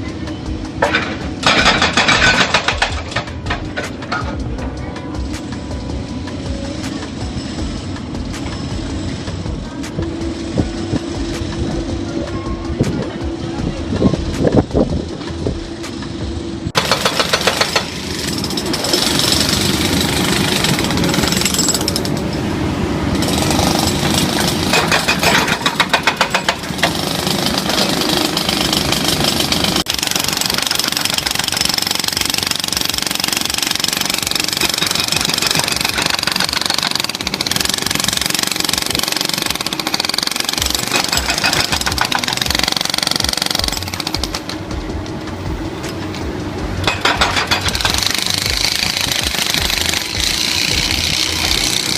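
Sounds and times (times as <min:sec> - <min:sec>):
hydraulic hammer pounding: 0:00.6 - 0:05.7, 0:14.0 - 0:22.5, 0:23.1 - 0:51.9.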